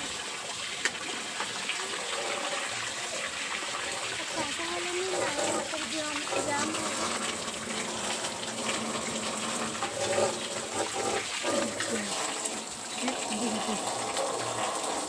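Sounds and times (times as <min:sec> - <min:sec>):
water running: 0:00.0 - 0:15.0.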